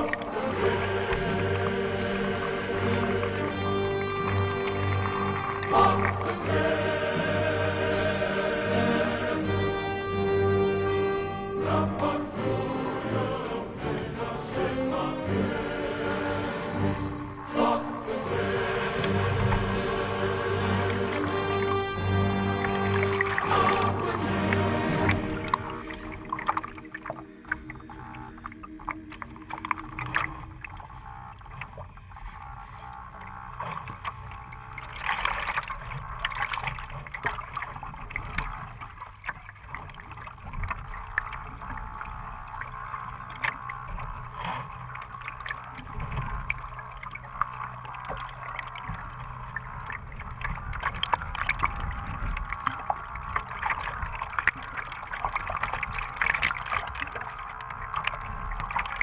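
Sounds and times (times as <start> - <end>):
small waves splashing: 0.0 - 59.0.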